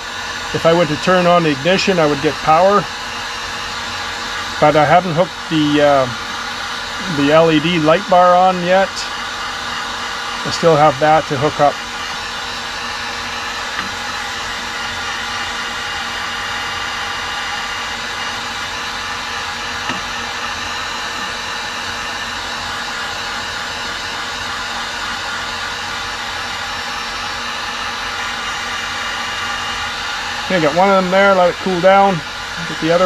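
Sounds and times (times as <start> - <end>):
heat gun blowing and humming: 0.0 - 33.0.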